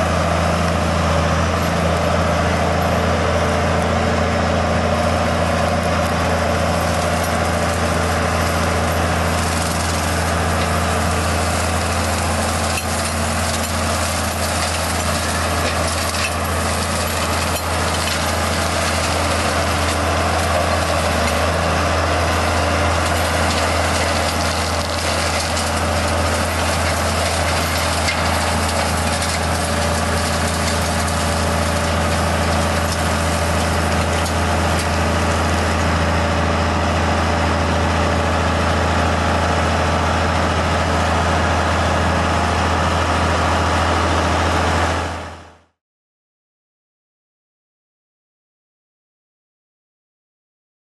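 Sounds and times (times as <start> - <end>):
mulcher rotor shredding wood: 0.0 - 45.7
tractor engine running: 0.0 - 45.7.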